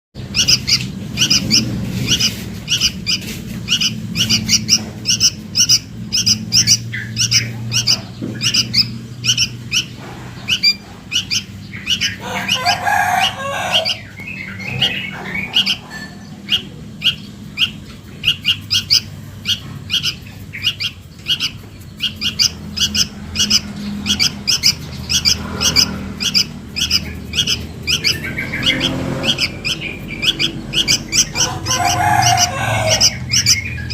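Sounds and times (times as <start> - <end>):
fledgling bird begging chirps: 0.2 - 33.9.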